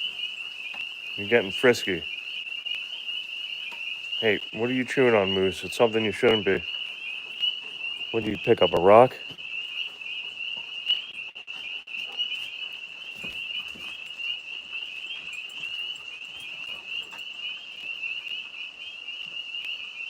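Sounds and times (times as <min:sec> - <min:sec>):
tree frogs trilling: 0:00.0 - 0:20.0.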